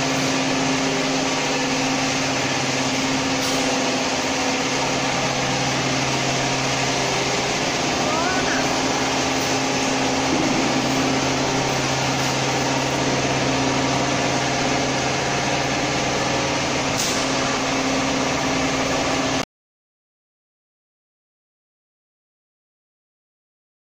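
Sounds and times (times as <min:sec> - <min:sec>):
frying machine humming and hissing: 0:00.0 - 0:19.4.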